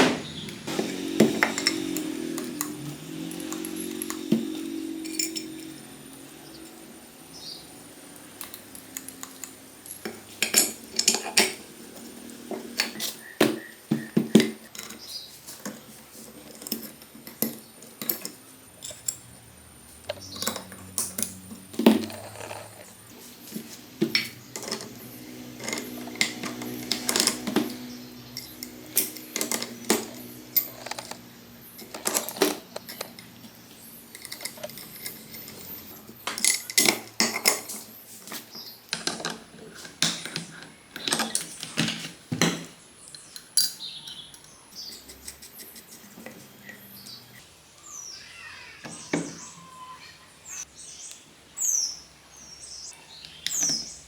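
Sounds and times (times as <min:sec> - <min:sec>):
metal tools clinking: 0:00.0 - 0:47.4.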